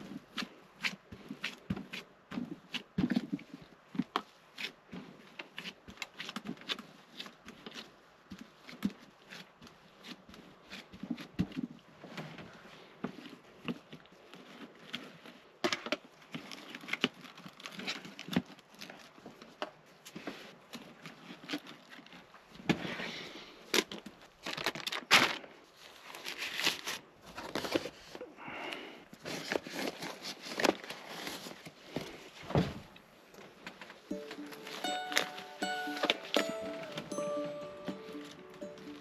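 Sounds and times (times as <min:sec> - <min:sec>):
rustling and crinkling: 0:00.0 - 0:28.3, 0:29.1 - 0:34.0.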